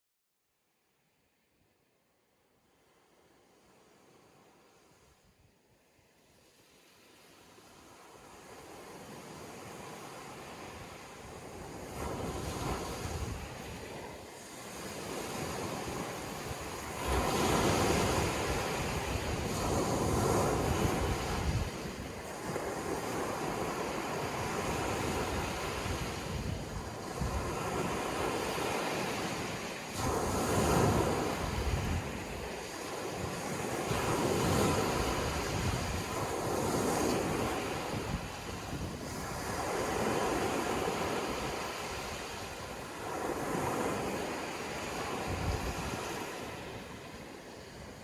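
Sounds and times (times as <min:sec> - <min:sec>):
waves breaking: 0:06.3 - 0:48.0
wind rumbling on microphone: 0:08.3 - 0:48.0.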